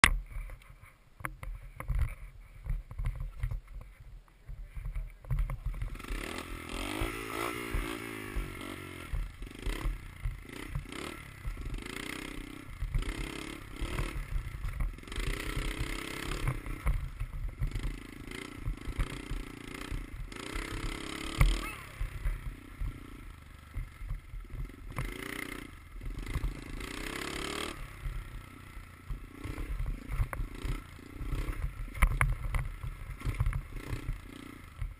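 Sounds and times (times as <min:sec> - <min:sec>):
dirt bike engine revving: 0:05.6 - 0:34.9.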